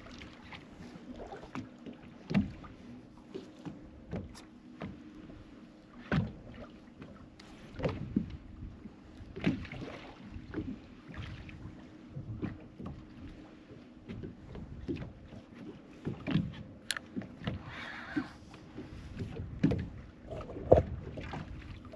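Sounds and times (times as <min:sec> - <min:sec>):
water splashing against boat hull: 0:00.0 - 0:21.9.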